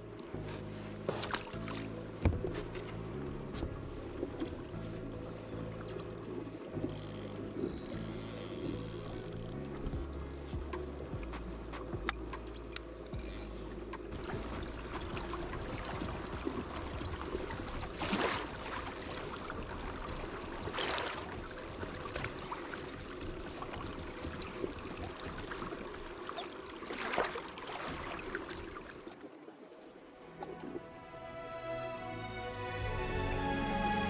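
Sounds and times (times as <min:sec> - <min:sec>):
small waves lapping against hull: 0:00.0 - 0:31.0
water swishes: 0:00.0 - 0:31.3.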